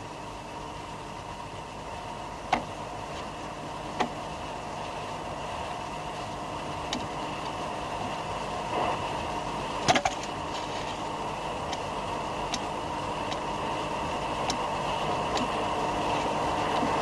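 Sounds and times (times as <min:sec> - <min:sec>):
machinery hum with hiss: 0:00.0 - 0:17.0.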